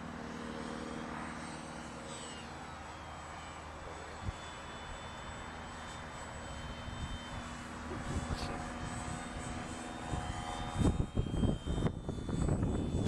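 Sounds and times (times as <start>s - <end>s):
model plane propeller drone: 0.0s - 13.0s.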